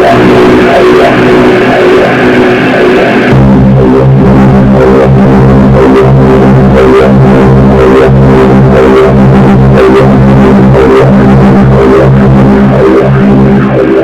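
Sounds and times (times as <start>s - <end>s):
dense wash of noise: 0.0s - 14.0s
distorted guitar and bass drone: 0.0s - 14.0s.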